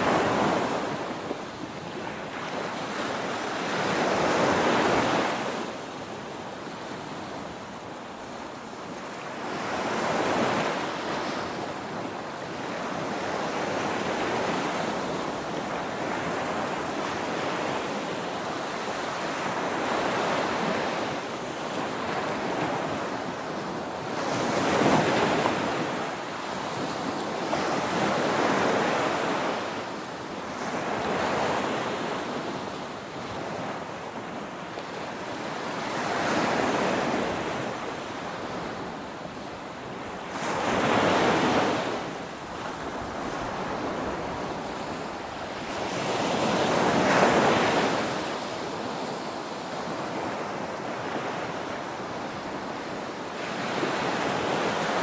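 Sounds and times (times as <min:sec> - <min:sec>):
small waves breaking on sand: 0:00.0 - 0:55.0.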